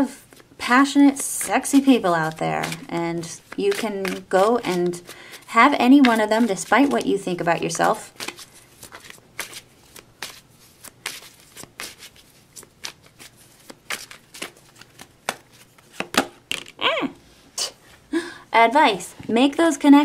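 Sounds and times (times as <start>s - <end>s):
cards being shuffled: 0.2s - 16.8s.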